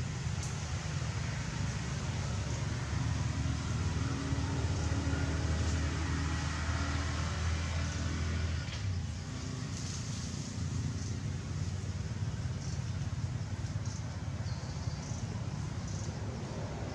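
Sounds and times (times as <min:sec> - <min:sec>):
low engine hum: 0:00.0 - 0:16.9.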